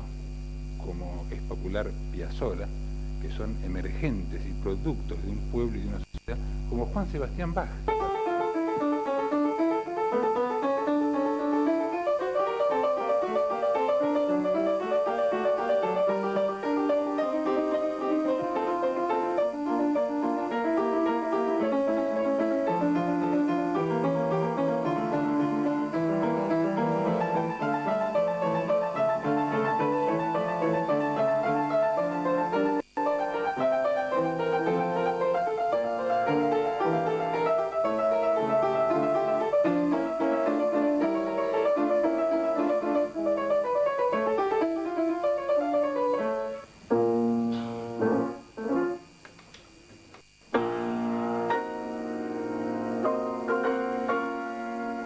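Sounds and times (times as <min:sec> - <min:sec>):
solo piano playing: 0:07.8 - 0:49.1, 0:50.5 - 0:55.0.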